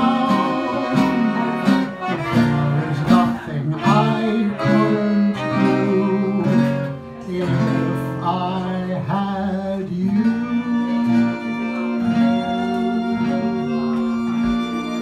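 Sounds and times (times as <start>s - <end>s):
man singing: 0.0s - 14.3s
jazz string band playing: 0.0s - 15.0s.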